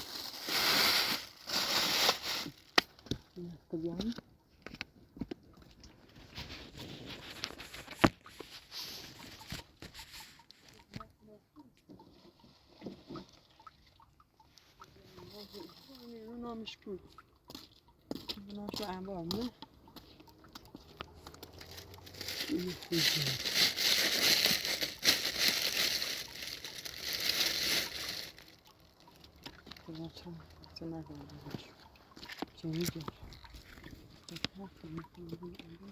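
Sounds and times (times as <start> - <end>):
rustling and handling noises: 0.0 - 13.6, 14.5 - 16.7, 18.1 - 35.9
crinkling and crackling: 0.0 - 13.8, 14.4 - 35.9.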